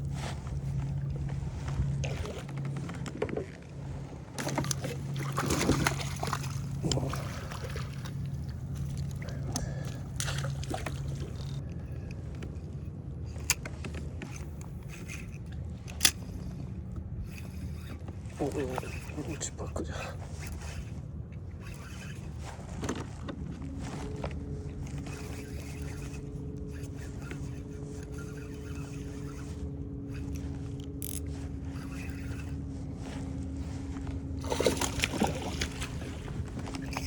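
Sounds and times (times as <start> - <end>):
steady low hum: 0.0 - 37.0
water sloshing around a kayak: 0.0 - 37.0.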